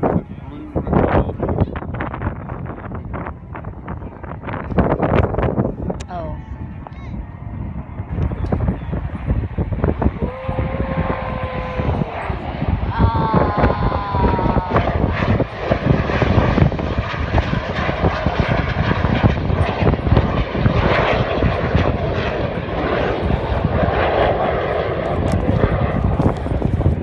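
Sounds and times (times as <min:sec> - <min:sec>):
jet aircraft flying past: 0:00.0 - 0:27.0.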